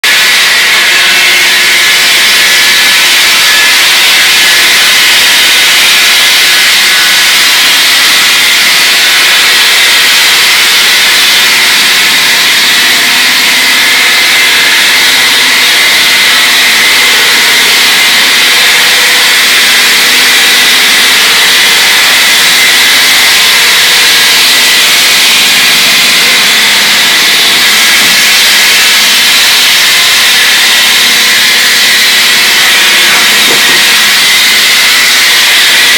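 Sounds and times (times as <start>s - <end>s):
power tool hissing: 0.0s - 35.9s.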